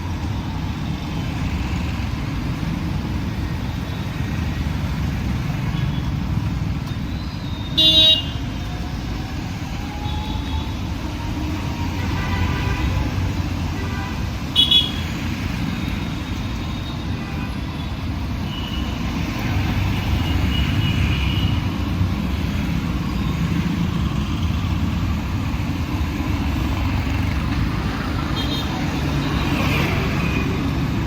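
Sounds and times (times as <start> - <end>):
passing road traffic rumble: 0.0 - 31.0.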